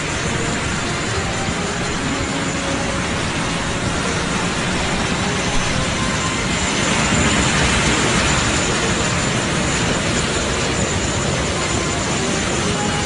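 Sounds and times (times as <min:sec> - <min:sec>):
faint high whine: 0:00.0 - 0:13.0
jet engines rushing: 0:00.0 - 0:13.0.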